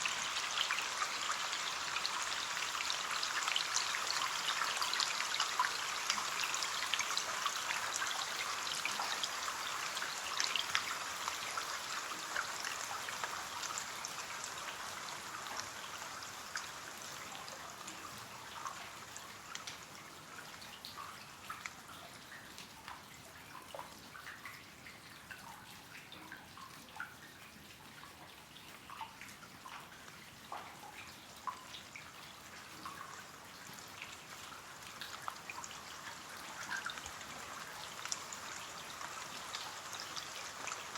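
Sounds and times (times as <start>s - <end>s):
rain on a window: 0.0s - 40.9s.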